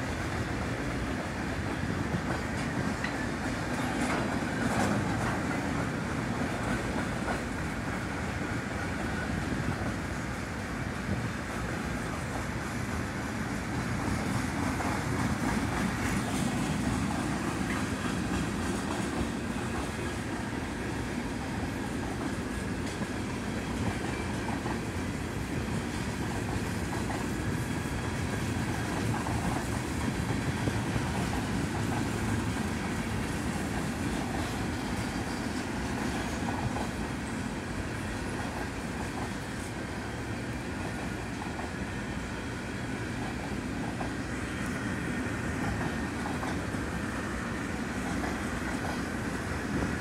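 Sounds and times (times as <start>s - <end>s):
freight train wheels rumbling on rails: 0.0s - 50.0s.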